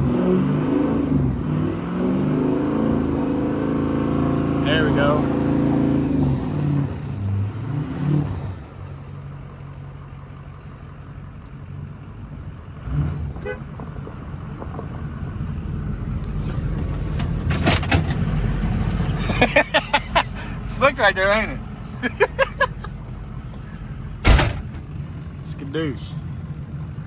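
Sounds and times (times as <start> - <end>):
diesel truck engine revving: 0.0 - 27.0.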